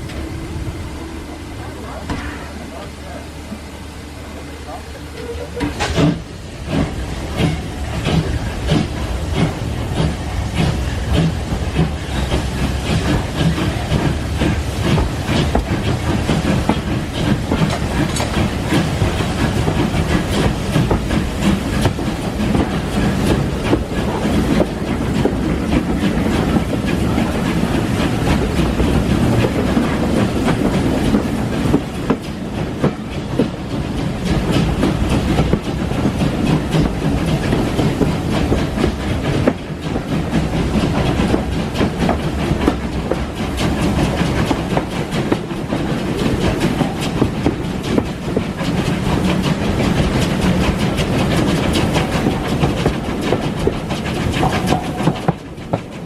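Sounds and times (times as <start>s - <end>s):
rail joint clicks: 0.0s - 56.0s
train wheels rumbling on track: 0.0s - 56.0s.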